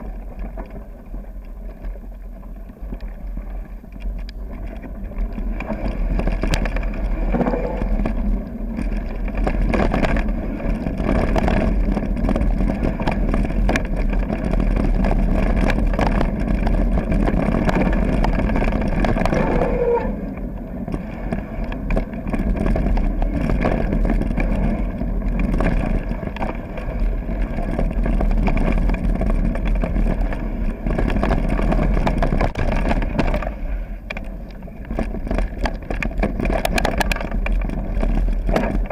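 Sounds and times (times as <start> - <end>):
bike rattling: 0.0 - 38.9
bike tyres crunching on gravel: 0.0 - 38.9
wind rumble on microphone: 0.0 - 38.9.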